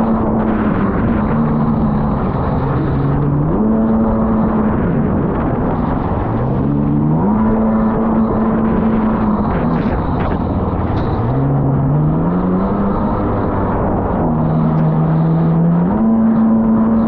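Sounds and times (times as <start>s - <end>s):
jet ski engine under throttle: 0.0s - 17.0s
rush of wind and water: 0.0s - 17.0s.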